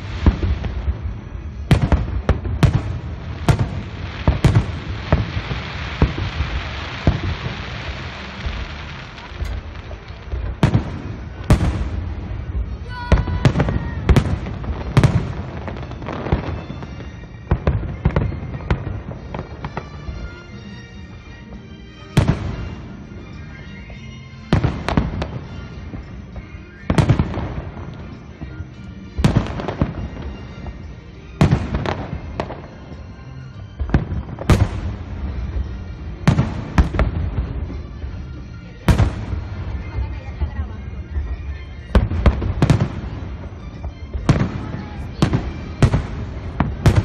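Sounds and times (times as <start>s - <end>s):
fireworks bursting with booms: 0.0s - 47.0s.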